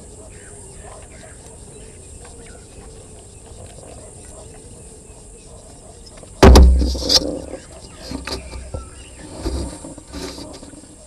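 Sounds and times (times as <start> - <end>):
bird chirps: 0.0 - 9.5
insects: 0.0 - 11.0.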